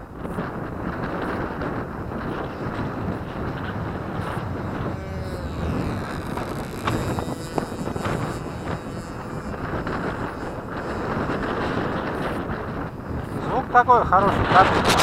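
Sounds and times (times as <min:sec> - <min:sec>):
faint model airplane engine drone: 0:00.0 - 0:15.0
wind buffeting microphone: 0:00.0 - 0:15.0.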